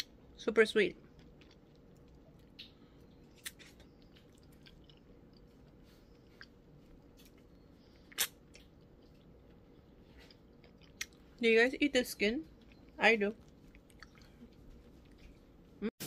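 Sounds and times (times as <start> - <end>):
faint chewing: 1.0 - 11.4, 12.4 - 15.8.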